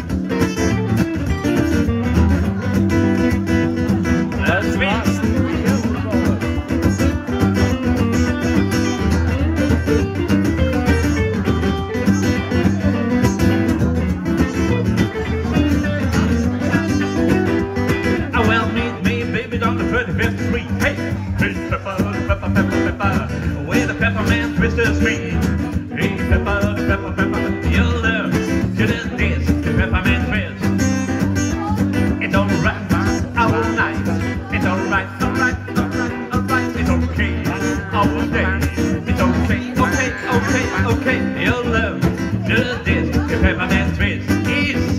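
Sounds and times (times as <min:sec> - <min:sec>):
acoustic guitar strumming: 0:00.0 - 0:44.9
electric guitar through amp: 0:00.0 - 0:44.9
man singing: 0:00.0 - 0:44.9.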